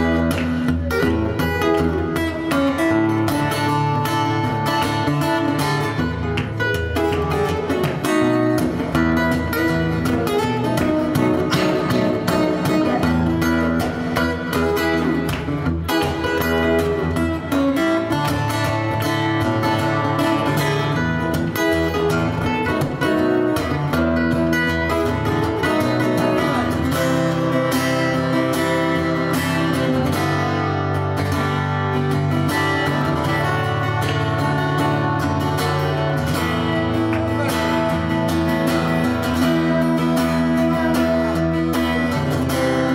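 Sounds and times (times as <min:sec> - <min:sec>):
acoustic guitar playing: 0:00.0 - 0:42.9.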